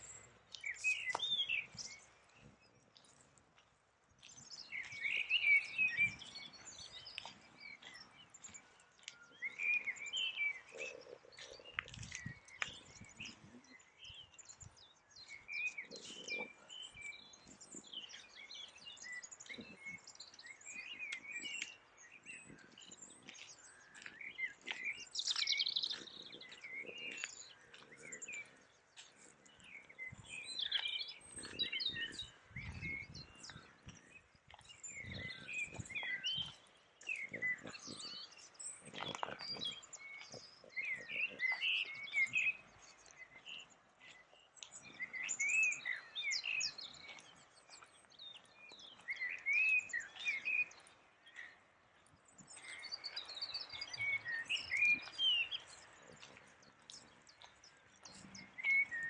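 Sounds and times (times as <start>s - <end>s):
footsteps on a path: 0.0s - 59.0s
songbirds chirping and trilling: 0.0s - 59.0s.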